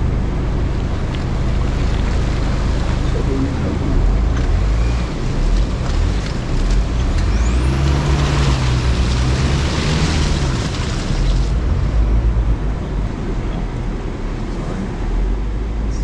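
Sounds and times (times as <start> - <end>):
pickup engine droning under load: 0.0 - 16.0
tyres rushing through mud: 0.0 - 16.0.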